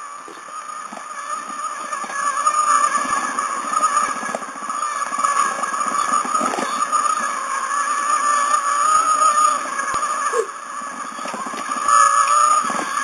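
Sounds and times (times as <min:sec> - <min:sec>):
plastic wheels rattling on track: 0:00.0 - 0:13.0
toy train motor whine: 0:00.0 - 0:13.0.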